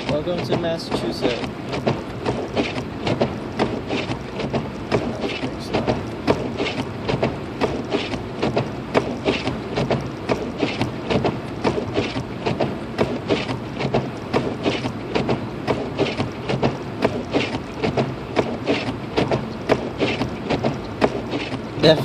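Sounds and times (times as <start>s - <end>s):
car engine and road hum: 0.0s - 22.0s
windshield wipers clacking: 0.0s - 22.0s.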